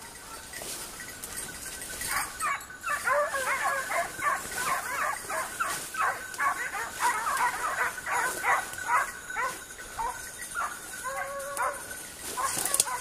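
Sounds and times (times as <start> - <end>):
hounds baying: 0.0 - 13.0.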